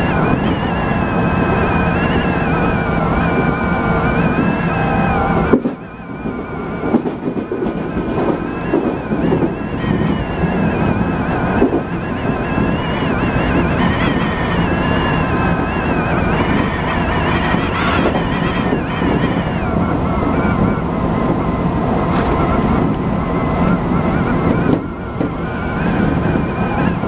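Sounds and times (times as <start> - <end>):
electric train rolling on rails: 0.0 - 27.0
passing train: 0.0 - 27.0
whining motor tones: 0.0 - 27.0.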